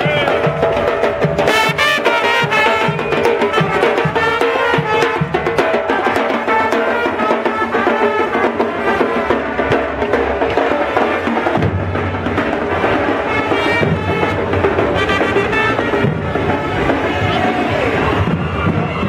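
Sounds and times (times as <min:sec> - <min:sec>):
marching snare and bass drums: 0:00.0 - 0:19.0
horn-led latin music: 0:01.4 - 0:09.9, 0:10.6 - 0:19.0.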